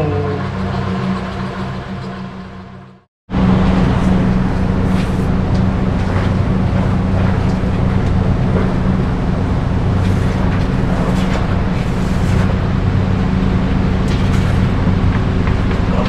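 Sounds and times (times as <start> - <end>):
machine motor humming and grinding: 0.0 - 16.0.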